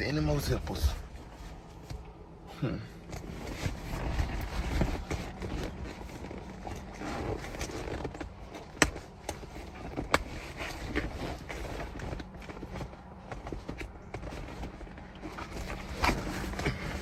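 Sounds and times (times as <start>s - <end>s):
fabric rustling and scraping: 0.0s - 17.0s.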